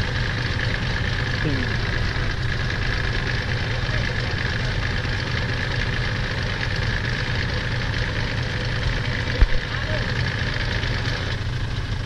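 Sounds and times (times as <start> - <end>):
diesel engines running at low revs: 0.0 - 12.0.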